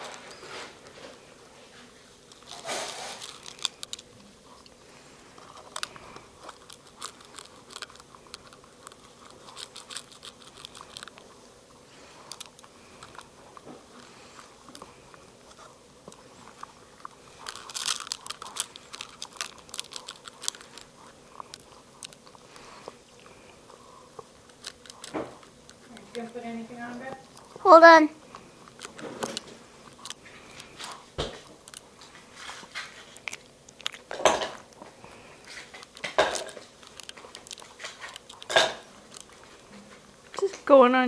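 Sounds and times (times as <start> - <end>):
dog licking and crunching food: 0.0 - 41.0.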